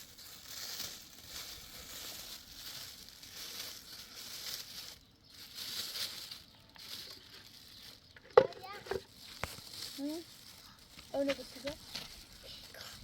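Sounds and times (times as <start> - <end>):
dry rustling and crunching: 0.0 - 13.0.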